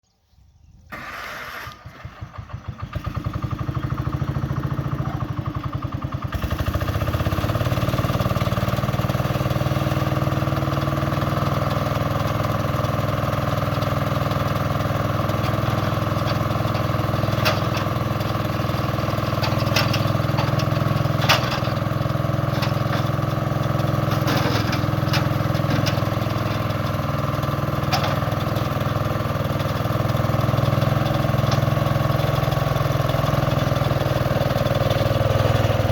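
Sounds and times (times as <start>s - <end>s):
engine cranking and idling: 0.9s - 35.9s.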